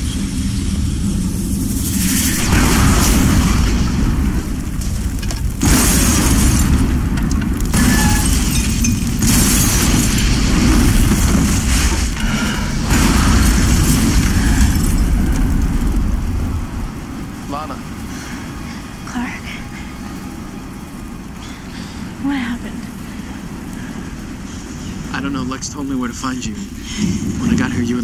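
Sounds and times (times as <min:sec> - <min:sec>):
building explosion blasts: 0:00.0 - 0:22.0, 0:23.0 - 0:28.0
deep rumble of fire: 0:00.0 - 0:28.0.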